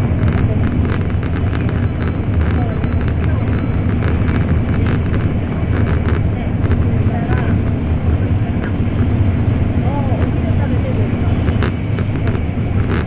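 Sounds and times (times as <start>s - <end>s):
train cabin deep rumble: 0.0s - 13.0s.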